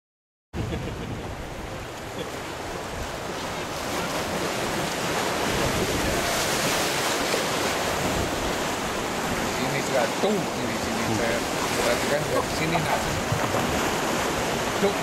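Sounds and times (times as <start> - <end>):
wind buffeting microphone: 0.6 - 9.6, 10.7 - 14.9
rushing river rapids: 1.0 - 15.0.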